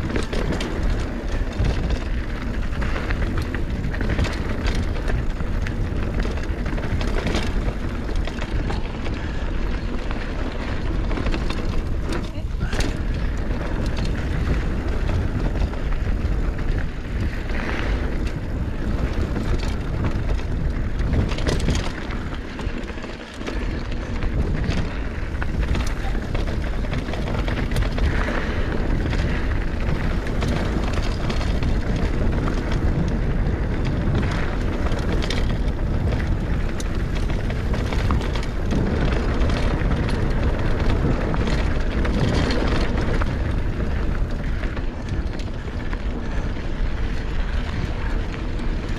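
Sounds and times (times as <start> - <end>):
bike clicks and clatters: 0.0 - 48.9
bike tyres rolling over dirt: 0.0 - 48.9
wind on microphone: 0.0 - 48.9.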